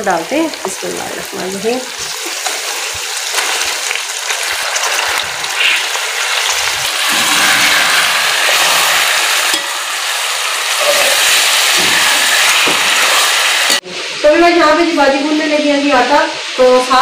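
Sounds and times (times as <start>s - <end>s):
chicken sizzling in hot fat: 0.0s - 17.0s.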